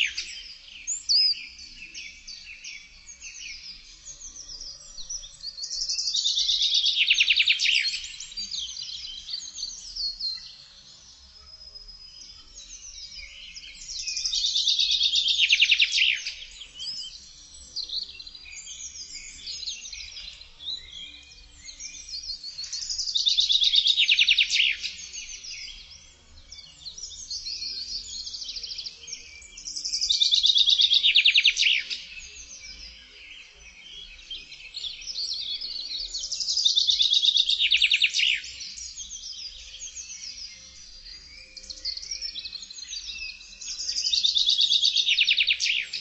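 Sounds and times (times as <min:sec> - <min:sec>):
faint bird chirps: 0:00.0 - 0:46.0.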